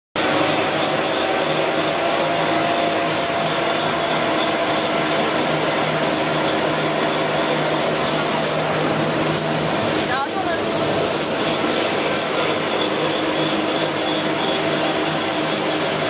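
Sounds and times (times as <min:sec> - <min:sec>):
printing machine whirring: 0:00.2 - 0:16.0.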